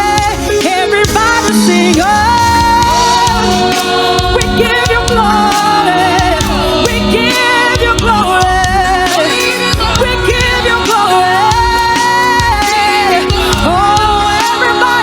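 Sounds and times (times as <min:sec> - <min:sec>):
band accompaniment: 0:00.0 - 0:15.0
gospel choir singing: 0:00.0 - 0:15.0
steady drum beat: 0:00.0 - 0:15.0.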